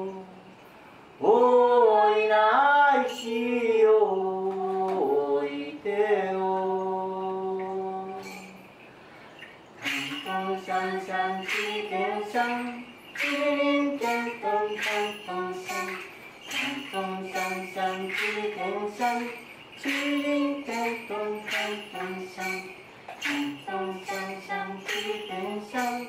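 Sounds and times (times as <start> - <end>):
jingling hand percussion: 0.0 - 26.0
person singing: 1.2 - 8.6, 9.8 - 26.0.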